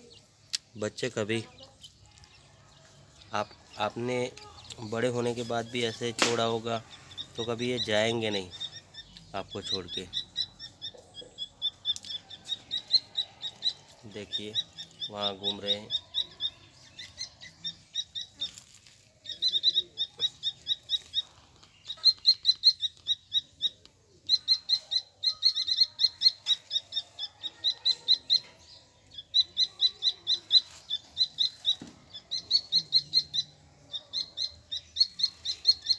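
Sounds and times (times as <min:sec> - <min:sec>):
chicks cheeping: 0:00.0 - 0:35.9.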